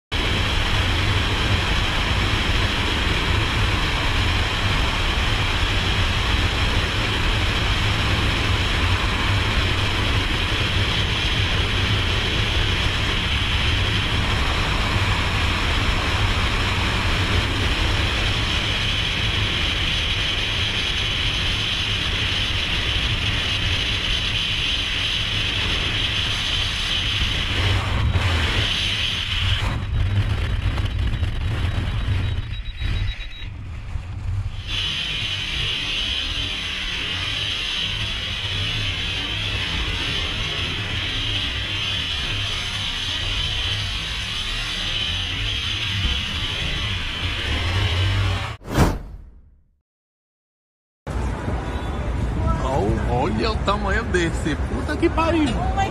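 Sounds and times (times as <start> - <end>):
freefall wind buffeting microphone: 0.1 - 48.4.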